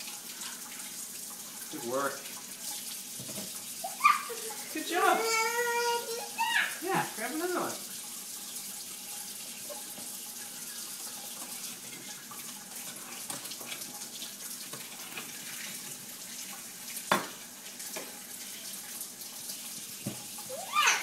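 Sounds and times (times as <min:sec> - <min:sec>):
faucet running into sink: 0:00.0 - 0:21.0.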